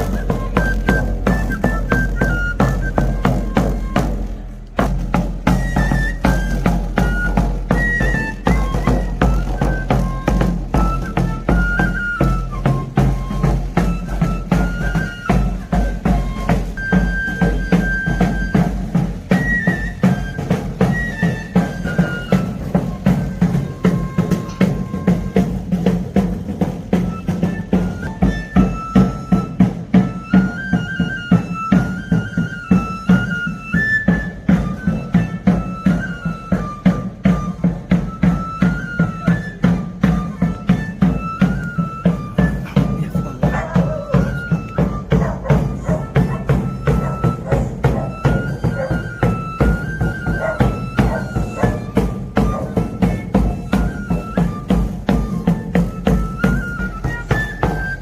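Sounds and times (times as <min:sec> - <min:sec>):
pipe playing folk melody: 0:00.0 - 0:58.0
steady tabor drumbeat: 0:00.0 - 0:58.0.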